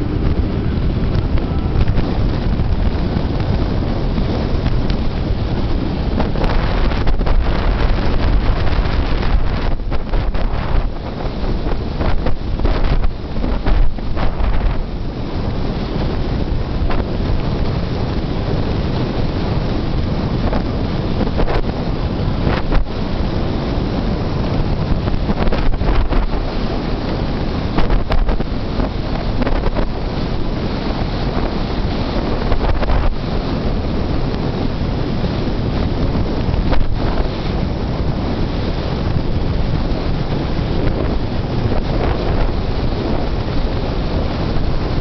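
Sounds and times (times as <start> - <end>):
wind blasting over microphone: 0.0 - 45.0.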